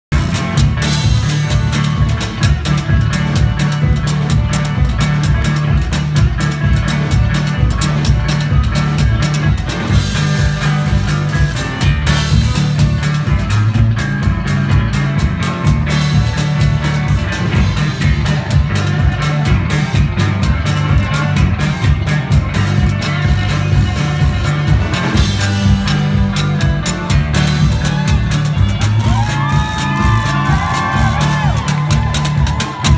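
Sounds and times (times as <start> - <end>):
driving drum kit: 0.1 - 32.9
electric guitar: 0.1 - 32.9
heavy bass line: 0.1 - 32.9.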